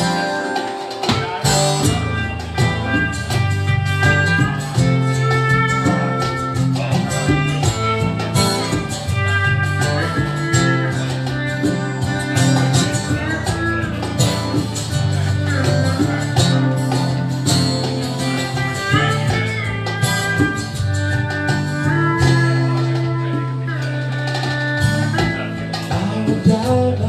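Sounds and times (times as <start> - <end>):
pedal steel guitar lead: 0.0 - 27.0
strummed acoustic guitar: 0.0 - 27.0.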